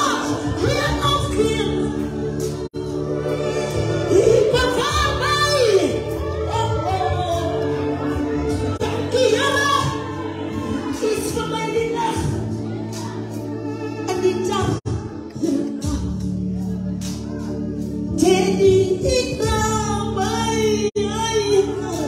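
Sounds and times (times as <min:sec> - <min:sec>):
woman singing gospel song: 0:00.0 - 0:22.0.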